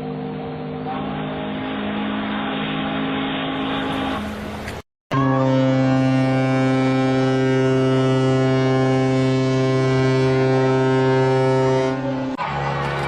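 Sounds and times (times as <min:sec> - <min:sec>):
ship's horn long blast: 0:00.5 - 0:13.0.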